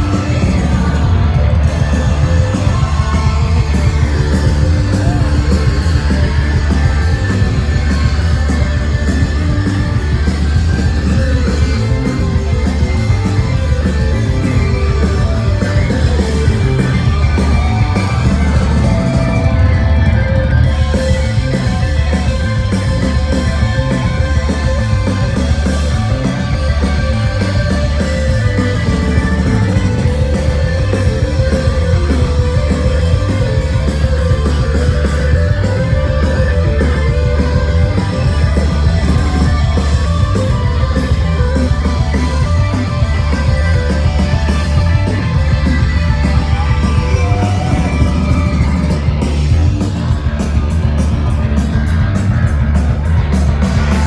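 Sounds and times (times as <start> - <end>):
loud rock band playing: 0.0 - 54.0.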